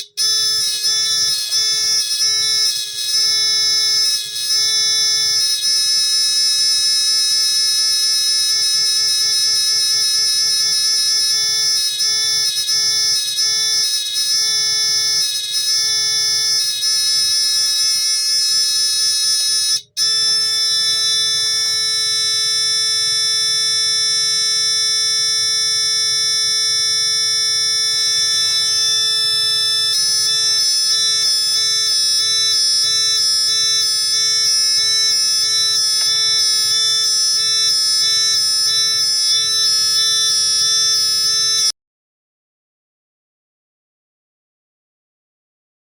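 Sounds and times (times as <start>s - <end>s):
electronic buzzer alarm tone: 0.0s - 41.8s.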